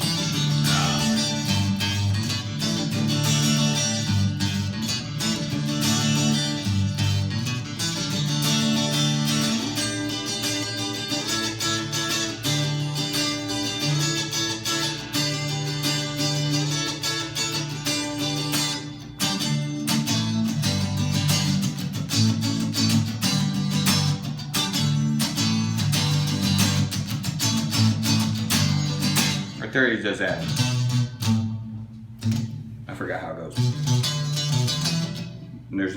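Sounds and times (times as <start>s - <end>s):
electric guitar clean tone: 0.0s - 32.9s, 33.5s - 35.7s.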